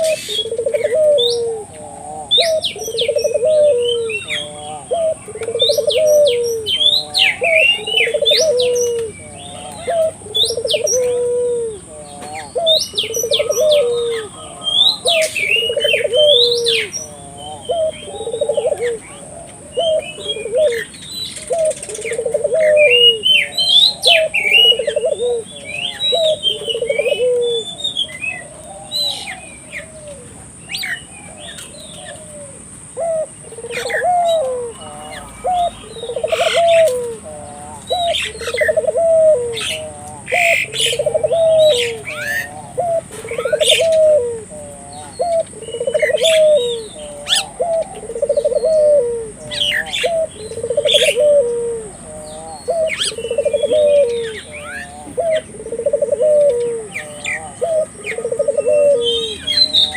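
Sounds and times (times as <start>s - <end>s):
dove cooing: 0.0s - 59.9s
small birds chirping: 0.0s - 59.9s.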